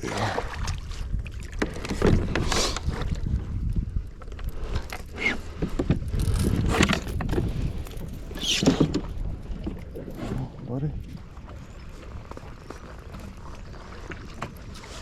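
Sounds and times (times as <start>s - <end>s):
paddle splashing water: 0.0s - 15.0s
wind on microphone: 0.0s - 15.0s.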